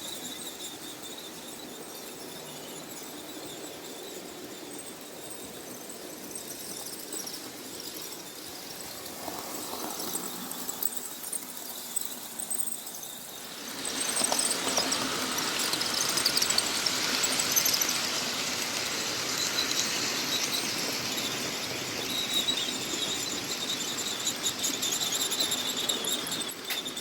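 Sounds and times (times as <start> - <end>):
model train running on track: 0.0 - 27.0
high-pitched wheel squeal: 0.1 - 27.0.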